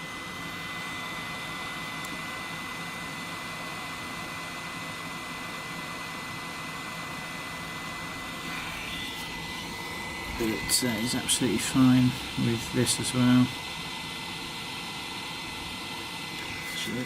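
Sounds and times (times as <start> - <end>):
hot air blower with high whine: 0.0 - 17.0.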